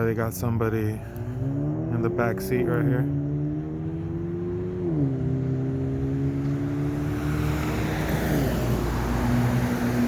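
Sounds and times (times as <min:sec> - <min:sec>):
vehicle engine at low revs: 0:00.0 - 0:10.0.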